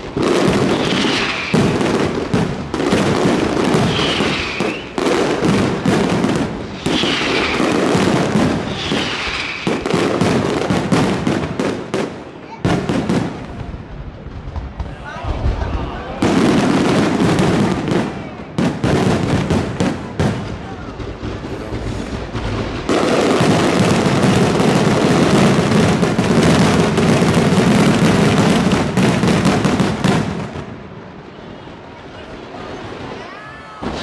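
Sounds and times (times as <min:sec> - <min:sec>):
fireworks bangs and crackle: 0:00.0 - 0:34.0
rapid fireworks barrage: 0:00.0 - 0:34.0.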